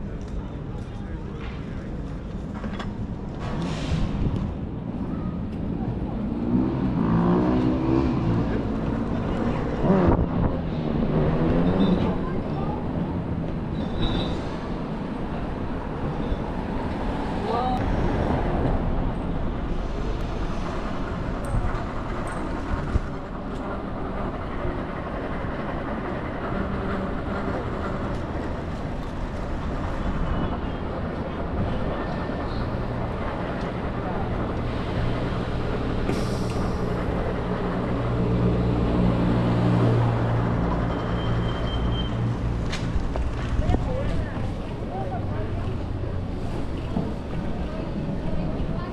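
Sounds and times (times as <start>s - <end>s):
heavy vehicle engine hum: 0.0s - 48.9s
street traffic: 0.0s - 48.9s
voices of passers-by: 0.0s - 48.9s.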